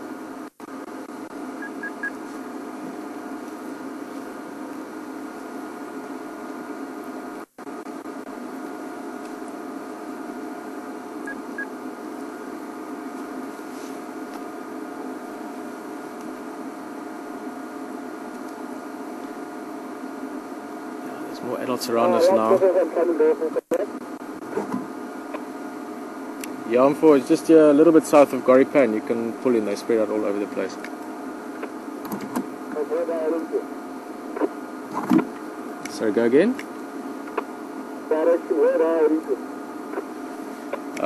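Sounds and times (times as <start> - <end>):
droning hum: 0.0 - 41.0.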